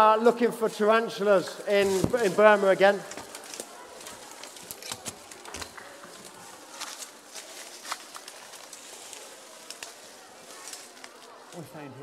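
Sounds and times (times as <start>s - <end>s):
dry leaves crackling and rustling: 1.6s - 11.8s.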